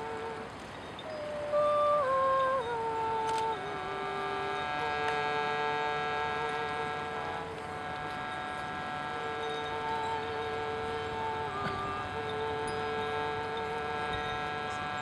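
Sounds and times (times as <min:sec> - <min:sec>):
accordion held melody note: 0:02.6 - 0:15.0.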